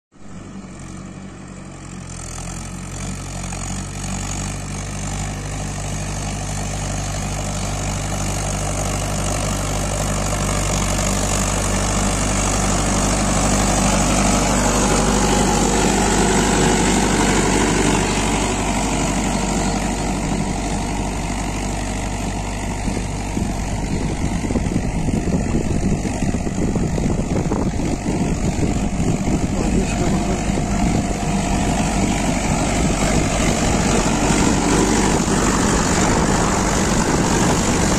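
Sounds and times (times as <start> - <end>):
tractor diesel engine running: 0.2 - 37.9.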